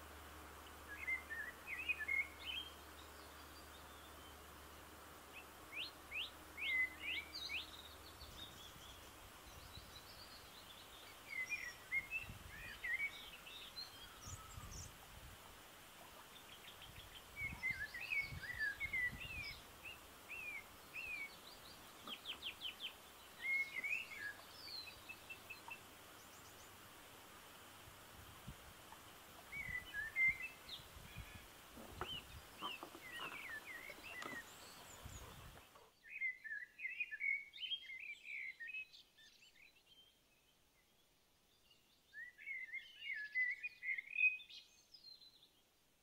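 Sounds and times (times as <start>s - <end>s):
faint steady hiss: 0.0s - 46.0s
songbirds chirping and warbling: 0.0s - 46.0s.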